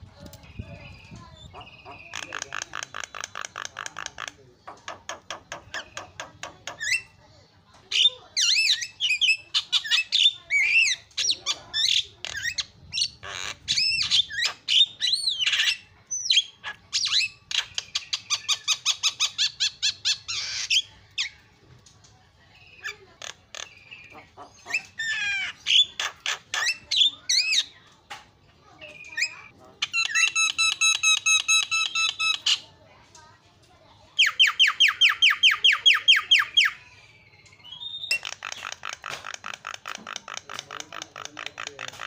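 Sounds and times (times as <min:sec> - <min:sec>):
bird singing varied song: 0:00.0 - 0:32.8, 0:34.0 - 0:42.0.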